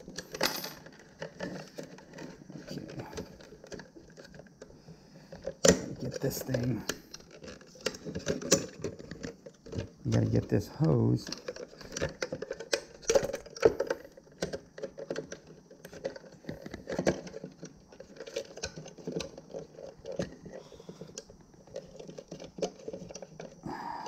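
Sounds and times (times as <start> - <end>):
plastic housing clicks and rattles: 0.0 - 23.6.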